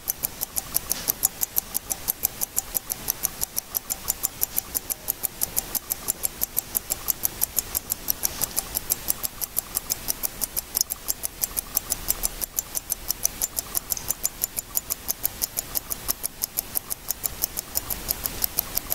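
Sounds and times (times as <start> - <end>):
wristwatch ticking: 0.0 - 18.9.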